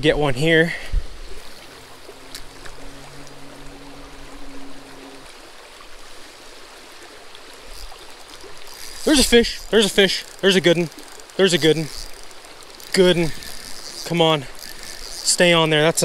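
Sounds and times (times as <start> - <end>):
creek water over rocks: 0.0 - 16.0
faint steady hum: 0.5 - 16.0.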